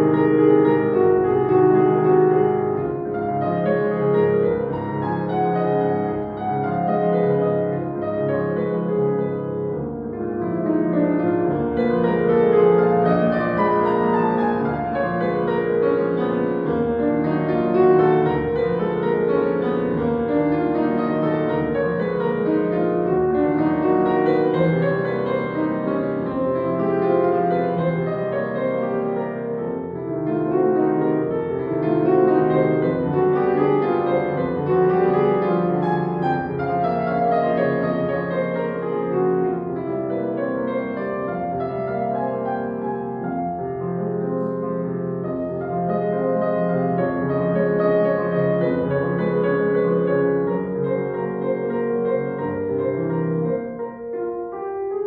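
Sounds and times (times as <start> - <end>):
solo piano classical music: 0.0 - 55.0.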